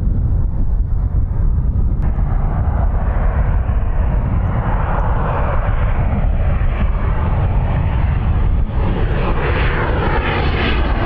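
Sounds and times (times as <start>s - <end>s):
jet engines on approach: 0.0s - 11.0s.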